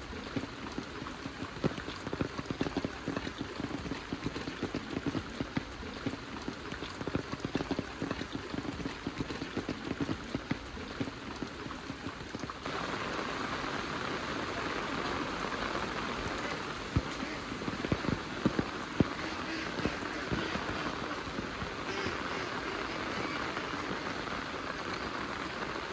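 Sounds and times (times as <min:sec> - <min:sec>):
heavy rain falling: 0:00.0 - 0:25.9
sharp raindrop hits: 0:00.0 - 0:25.9.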